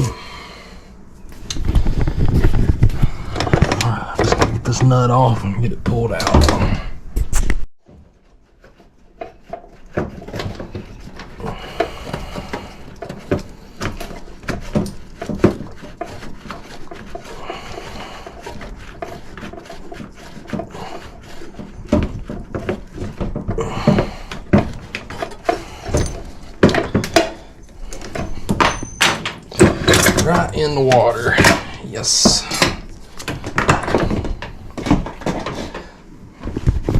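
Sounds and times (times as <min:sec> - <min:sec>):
hand tools knocking and scraping metal: 0:01.6 - 0:06.8, 0:07.8 - 0:36.9.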